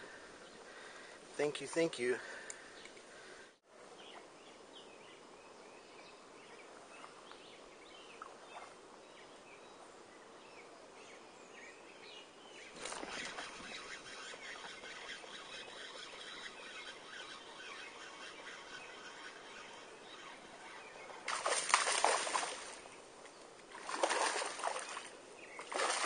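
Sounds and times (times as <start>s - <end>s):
birds chirping: 0.0s - 26.0s
faint outdoor hiss: 0.0s - 26.0s.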